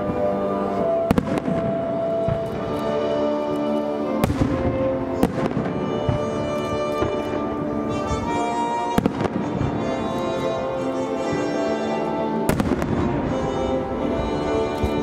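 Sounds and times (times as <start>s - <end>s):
music with held notes: 0.0s - 15.0s.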